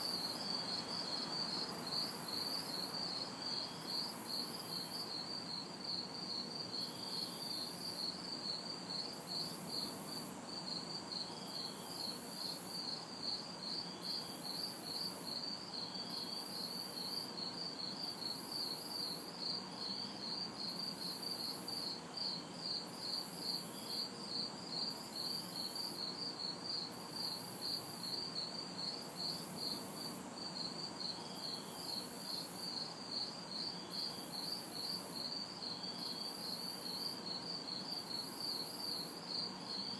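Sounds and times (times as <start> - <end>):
crickets chirping: 0.0 - 39.9
shrill insect call: 0.0 - 39.9.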